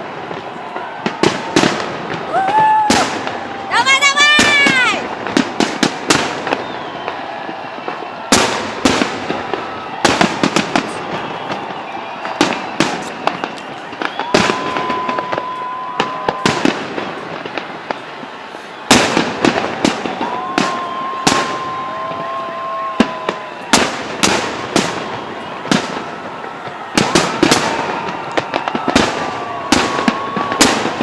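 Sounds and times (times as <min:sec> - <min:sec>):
fireworks bangs: 0:00.0 - 0:31.0
fireworks whistle: 0:00.0 - 0:31.0.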